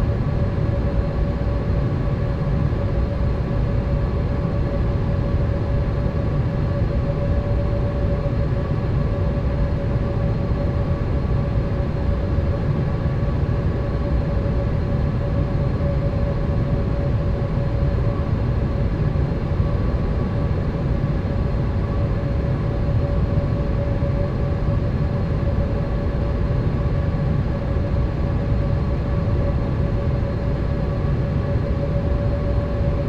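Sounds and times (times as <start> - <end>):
constant hum: 0.0 - 33.0.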